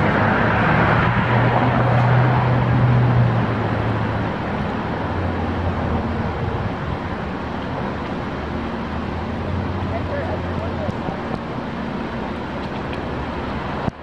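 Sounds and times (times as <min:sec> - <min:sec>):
street noise: 0:00.0 - 0:14.0
vehicle engine hum: 0:00.0 - 0:14.0.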